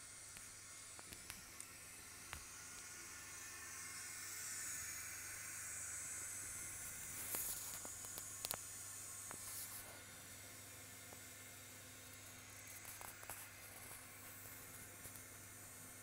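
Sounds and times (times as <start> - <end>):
constant hiss: 0.0 - 16.0
low electrical hum: 0.0 - 16.0.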